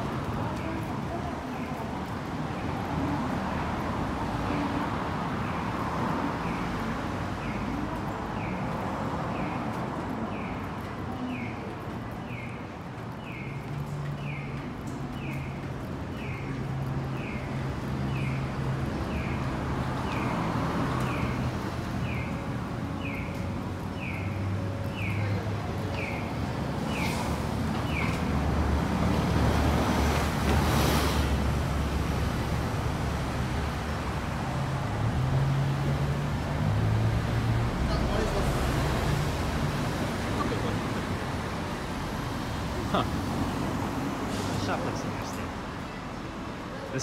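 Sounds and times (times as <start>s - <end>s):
vehicles pulling past: 0.0s - 47.0s.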